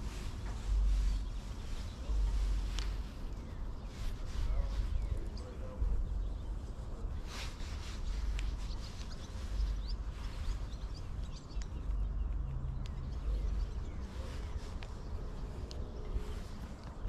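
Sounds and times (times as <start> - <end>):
birds chirping: 0.0 - 17.0
low rumble: 0.0 - 17.0.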